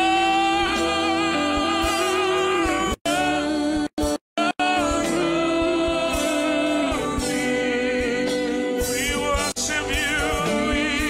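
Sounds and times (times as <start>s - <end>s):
man singing lead: 0.0s - 3.8s, 4.4s - 11.0s.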